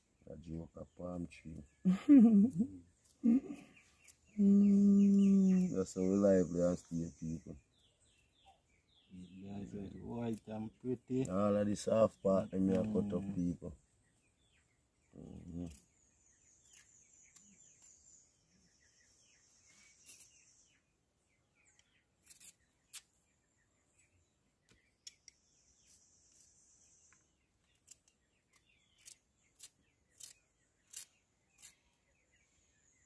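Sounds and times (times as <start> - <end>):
faint chirps: 0.0 - 33.0.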